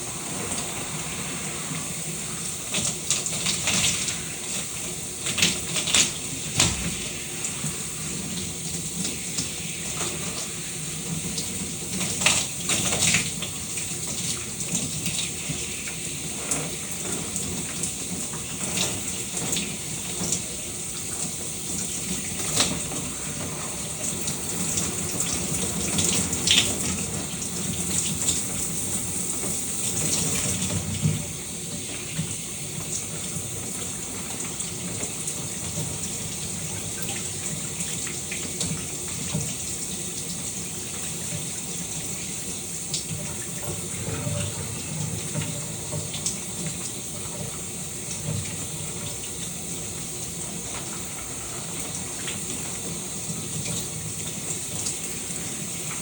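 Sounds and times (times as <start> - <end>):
shower spraying water: 0.0 - 56.0
water splashes: 0.0 - 56.0.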